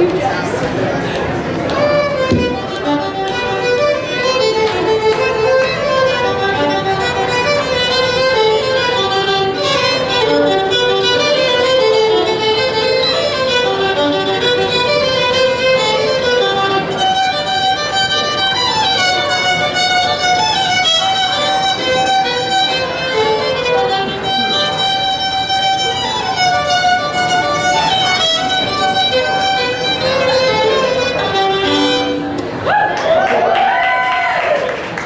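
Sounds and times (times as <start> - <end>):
fiddles playing lively tune: 0.0 - 0.2, 1.2 - 32.7.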